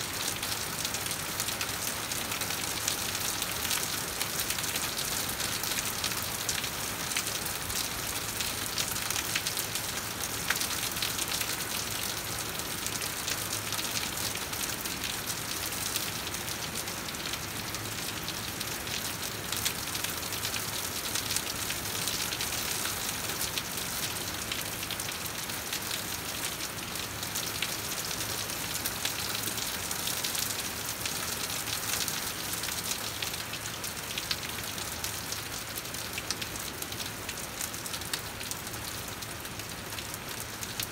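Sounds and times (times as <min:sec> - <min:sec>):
steady rain hiss: 0:00.0 - 0:40.9
raindrops ticking close by: 0:00.1 - 0:40.9.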